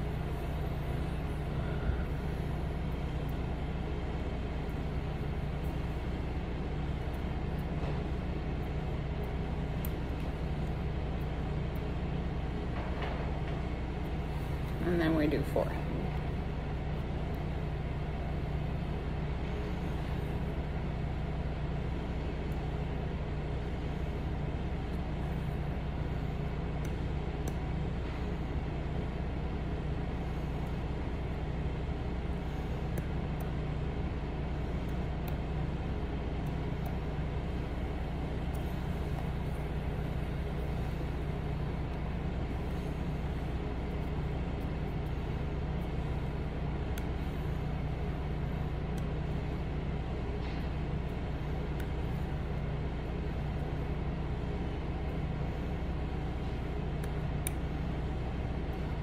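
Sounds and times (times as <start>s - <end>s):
vacuum pump humming: 0.0s - 59.0s.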